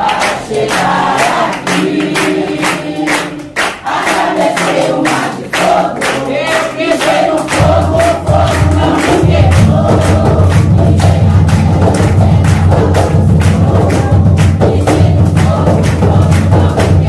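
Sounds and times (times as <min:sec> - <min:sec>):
group of voices chanting: 0:00.0 - 0:17.0
steady drum beat: 0:00.1 - 0:17.0.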